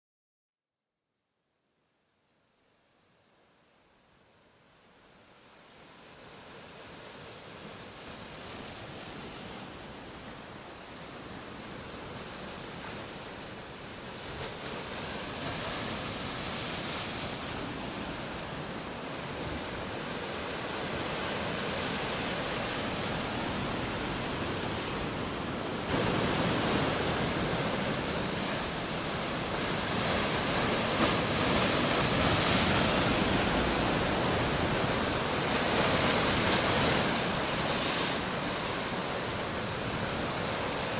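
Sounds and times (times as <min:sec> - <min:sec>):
sea waves washing on shore: 0:05.1 - 0:40.9.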